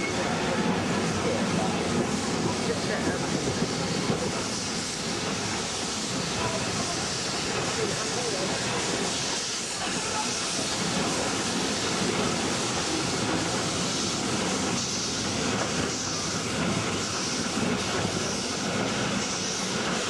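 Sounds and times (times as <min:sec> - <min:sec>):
steam train rumbling and hissing: 0:00.0 - 0:20.0.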